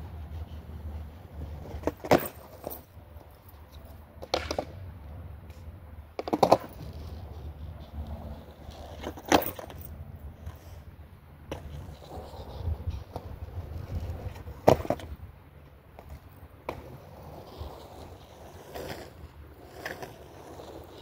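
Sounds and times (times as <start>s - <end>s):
skateboard clacking on concrete: 0.1s - 10.7s, 11.4s - 21.0s.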